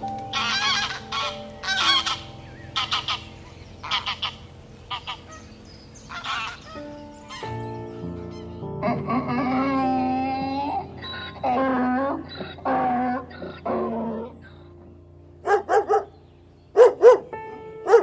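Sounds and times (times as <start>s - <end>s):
bird honking: 0.0s - 18.0s
low sustained notes: 0.0s - 18.0s.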